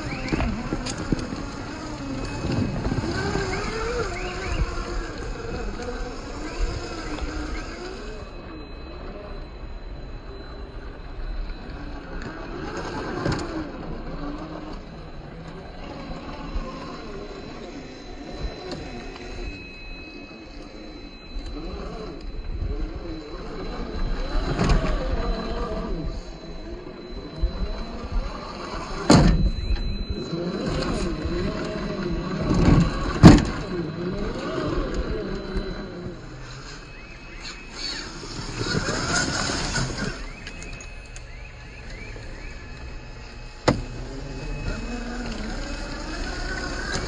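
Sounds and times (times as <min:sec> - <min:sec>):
electric motor whining: 0:00.0 - 0:47.0.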